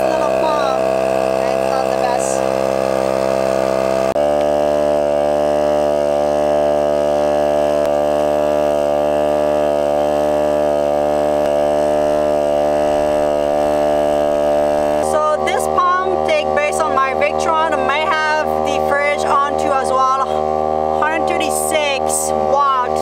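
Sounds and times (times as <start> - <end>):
air compressor buzzing drone: 0.0 - 23.0.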